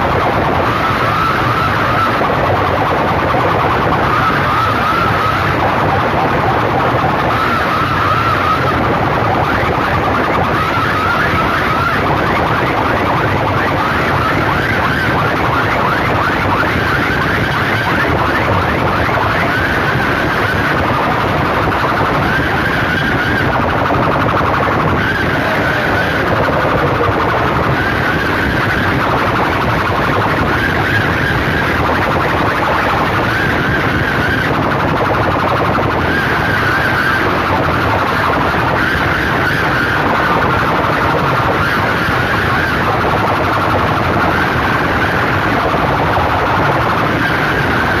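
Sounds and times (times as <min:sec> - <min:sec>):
dense wall of noise: 0:00.0 - 0:48.0
siren-like electronic tone: 0:00.0 - 0:48.0.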